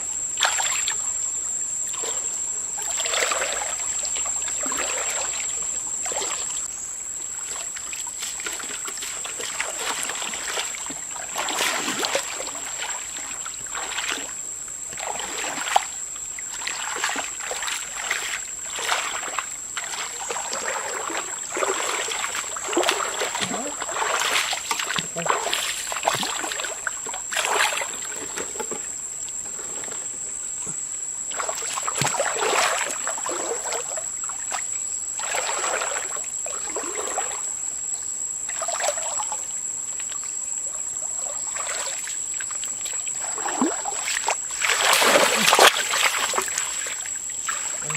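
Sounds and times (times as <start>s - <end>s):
water splashing and sloshing: 0.4s - 1.1s, 1.8s - 47.9s.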